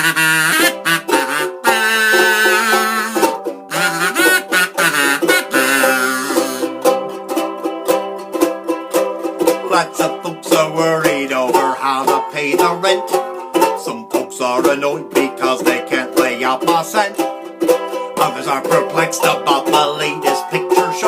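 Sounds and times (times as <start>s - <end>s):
kazoo playing melody: 0.0s - 21.0s
ukulele strumming: 0.0s - 21.0s.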